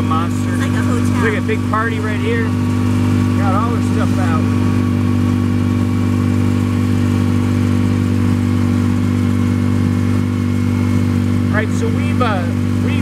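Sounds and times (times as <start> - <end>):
golf cart engine running: 0.0 - 13.0.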